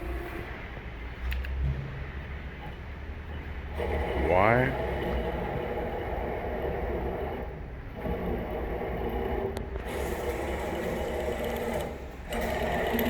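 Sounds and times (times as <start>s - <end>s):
milling machine motor hum: 0.0s - 0.8s, 2.1s - 13.0s.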